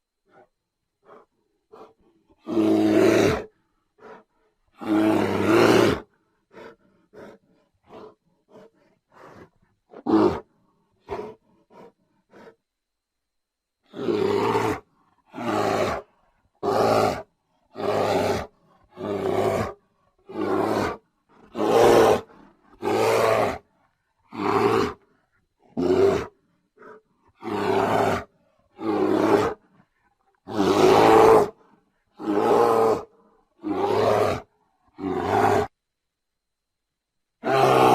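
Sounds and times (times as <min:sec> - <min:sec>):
bear roaring: 0:01.0 - 0:12.6, 0:13.9 - 0:35.7, 0:37.4 - 0:37.9.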